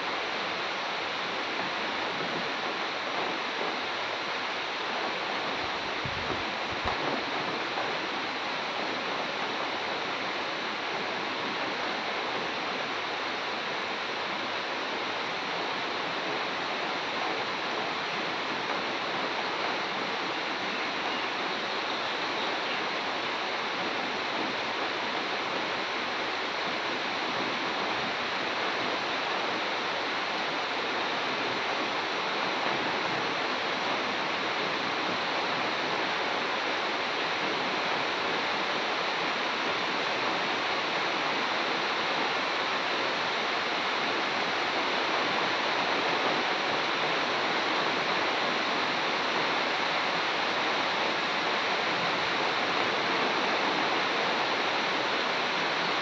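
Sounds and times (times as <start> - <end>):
rain falling on trees: 0.0 - 56.0.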